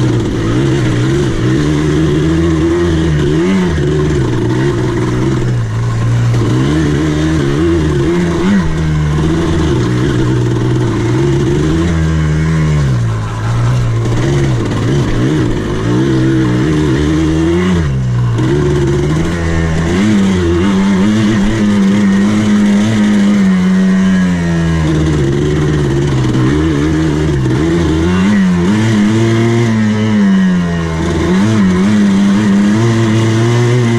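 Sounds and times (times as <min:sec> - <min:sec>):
buggy engine revving: 0:00.0 - 0:33.9.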